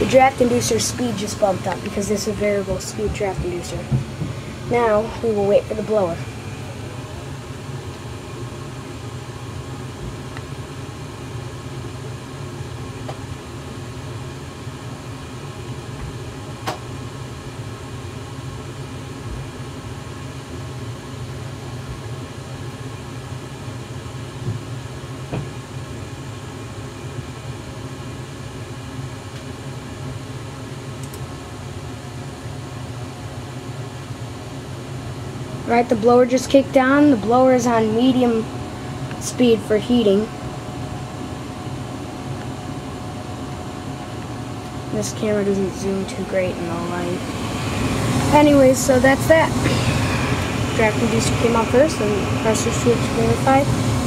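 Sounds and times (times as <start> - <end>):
furnace inducer motor humming: 0.0 - 54.0.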